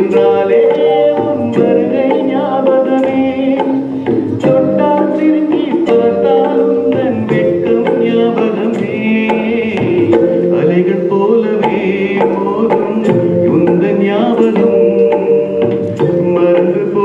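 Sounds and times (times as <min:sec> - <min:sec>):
electronic keyboards: 0:00.0 - 0:17.0
man singing through microphone: 0:00.0 - 0:17.0
steady drum rhythm: 0:00.0 - 0:17.0.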